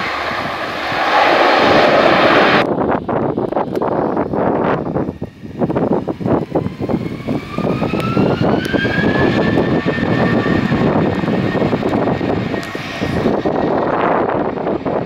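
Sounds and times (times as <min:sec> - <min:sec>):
jet engines spooling up: 0:00.0 - 0:15.0
wind buffeting microphone: 0:00.0 - 0:15.0.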